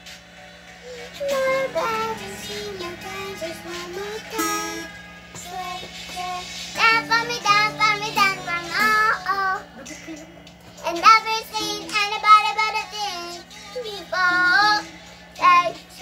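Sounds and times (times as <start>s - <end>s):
acoustic guitar: 0.0s - 16.0s
girl singing: 0.8s - 10.2s, 10.8s - 16.0s.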